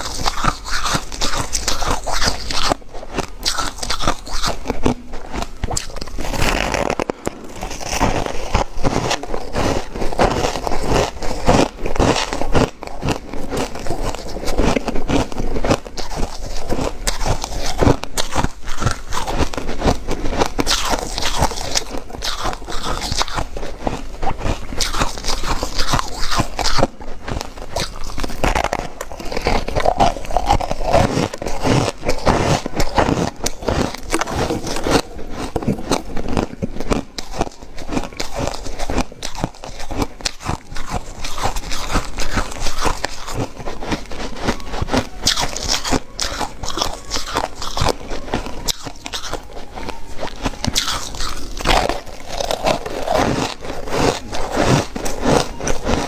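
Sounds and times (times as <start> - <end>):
person chewing ice: 0.0 - 56.0.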